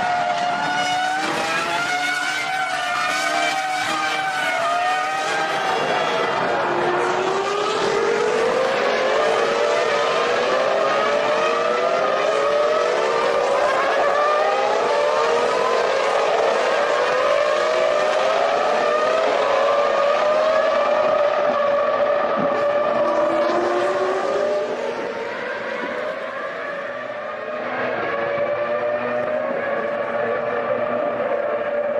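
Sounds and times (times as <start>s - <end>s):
racing car engines at full throttle: 0.0s - 31.9s.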